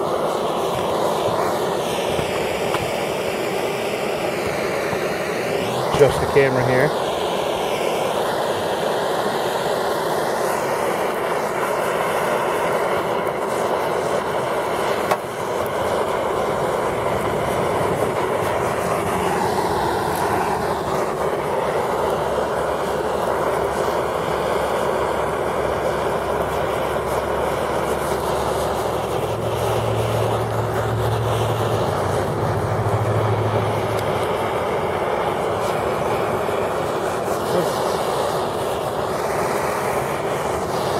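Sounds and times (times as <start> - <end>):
gas torch flame hissing: 0.0 - 40.9.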